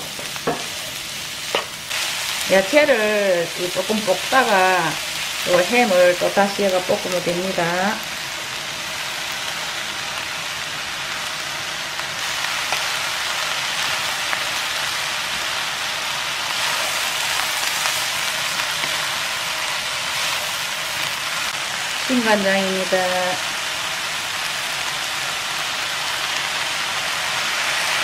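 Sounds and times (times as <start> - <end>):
food sizzling in a frying pan: 0.0 - 28.0.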